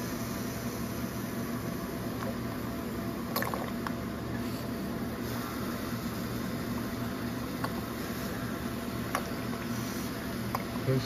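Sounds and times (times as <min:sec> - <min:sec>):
printer electric hum: 0:00.0 - 0:11.0.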